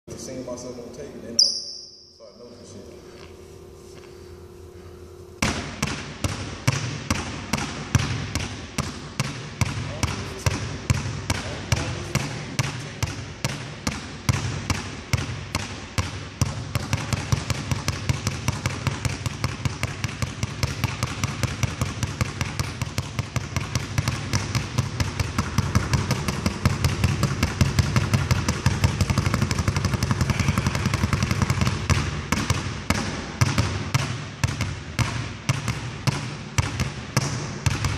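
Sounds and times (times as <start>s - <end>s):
basketballs bouncing on wooden floor: 5.4s - 37.9s.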